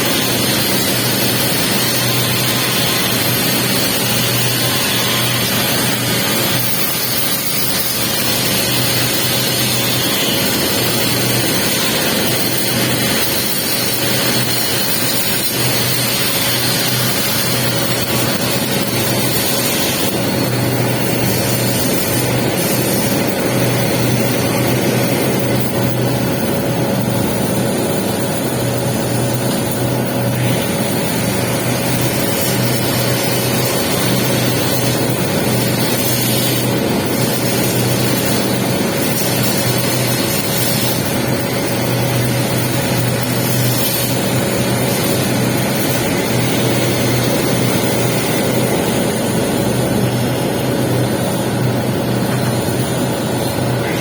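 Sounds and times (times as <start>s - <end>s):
welding arc hiss and crackle: 0.0s - 54.0s.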